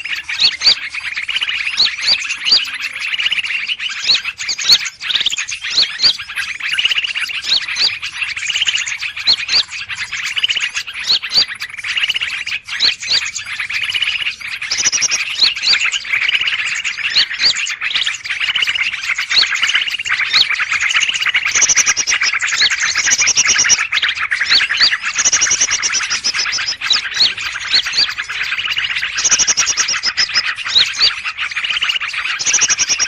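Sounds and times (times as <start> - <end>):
many small birds chirping: 0.0 - 33.0.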